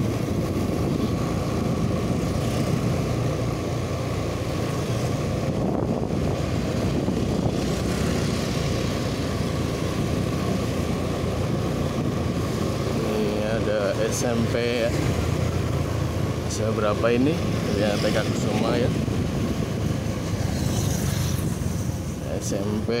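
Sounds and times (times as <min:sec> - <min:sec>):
motorcycle engine drone: 0:00.0 - 0:23.0
rush of travel: 0:00.0 - 0:23.0.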